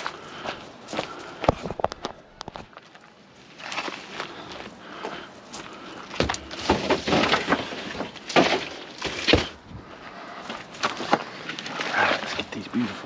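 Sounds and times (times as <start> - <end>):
rustling leaves and pots: 0.0 - 13.0.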